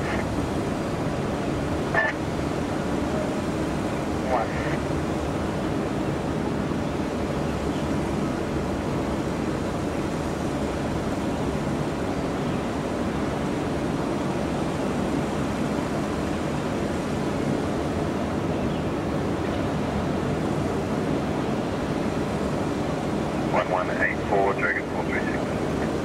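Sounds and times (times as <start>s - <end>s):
distant airport rumble: 0.0s - 26.0s.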